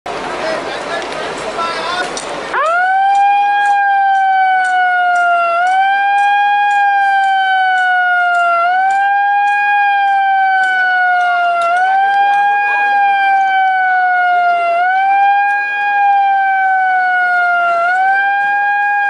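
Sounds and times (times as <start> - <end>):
siren wailing: 2.5 - 19.0.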